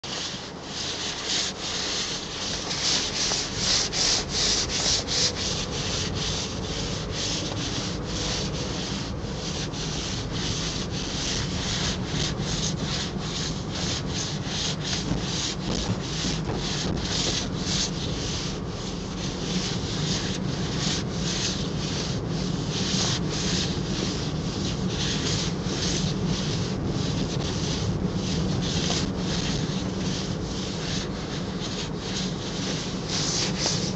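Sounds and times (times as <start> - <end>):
car driving hum: 0.4 - 33.9.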